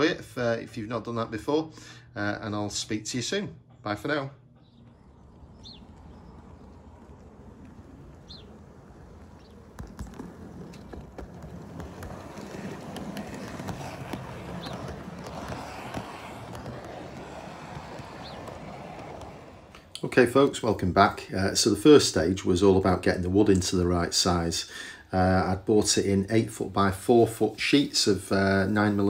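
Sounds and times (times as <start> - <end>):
wheels clicking over rail joints: 4.4 - 29.0.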